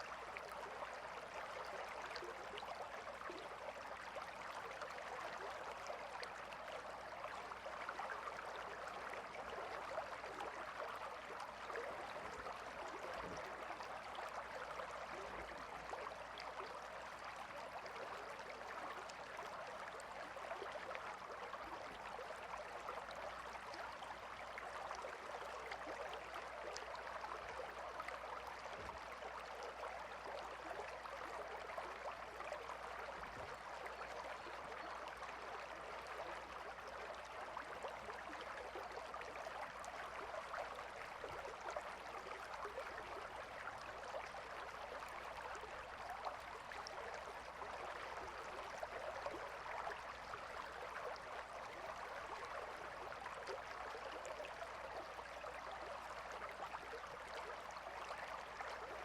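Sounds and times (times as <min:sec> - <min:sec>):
river water gurgling: 0:00.0 - 0:59.0.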